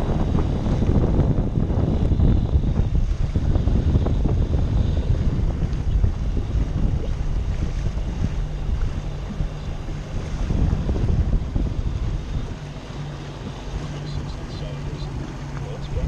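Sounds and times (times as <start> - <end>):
water lapping against dinghy hull: 0.0 - 16.0
wind buffeting microphone: 0.0 - 16.0.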